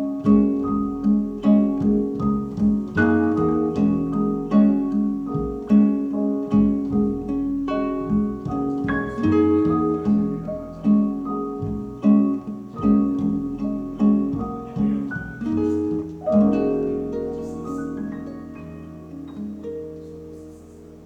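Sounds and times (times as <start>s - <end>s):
plucked string music: 0.0s - 21.0s.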